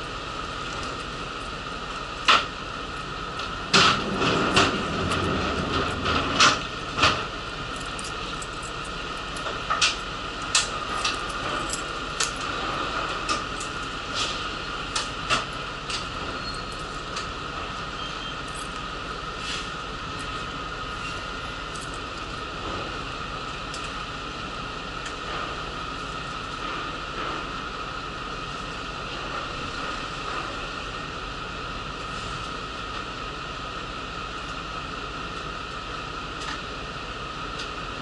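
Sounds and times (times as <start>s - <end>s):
bus interior hum: 0.0s - 38.0s.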